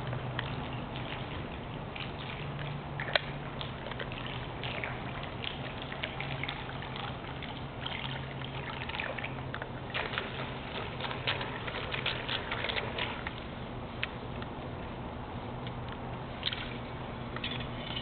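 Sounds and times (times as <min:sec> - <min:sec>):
small water splashes: 0:00.0 - 0:15.0, 0:15.7 - 0:18.0
pool water trickling and lapping: 0:00.0 - 0:18.0.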